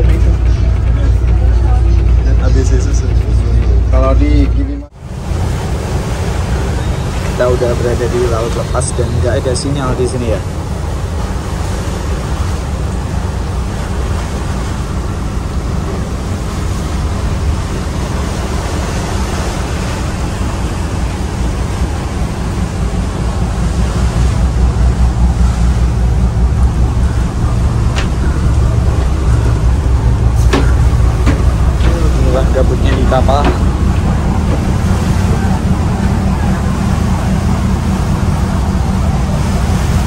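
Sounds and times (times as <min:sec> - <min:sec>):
low engine drone: 0:00.0 - 0:40.0
sea rushing: 0:00.0 - 0:40.0.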